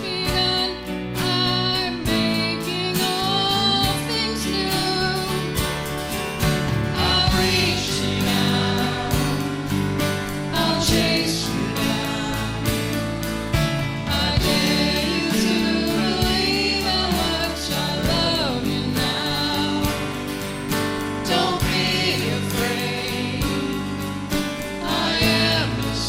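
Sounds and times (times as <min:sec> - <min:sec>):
choir singing gospel song: 0:00.0 - 0:05.6, 0:06.4 - 0:26.0
instrumental accompaniment with beat: 0:00.3 - 0:26.0.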